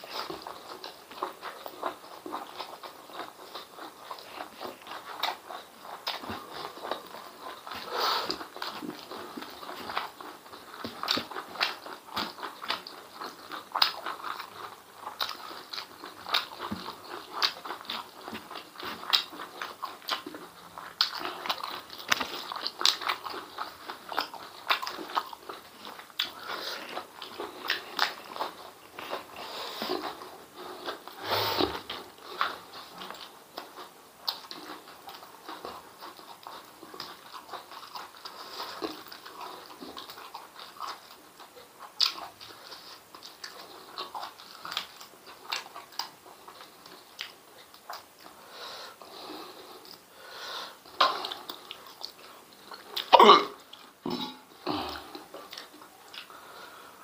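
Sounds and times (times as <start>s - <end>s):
wet chewing and lip smacking: 0.0s - 50.1s, 50.7s - 56.9s.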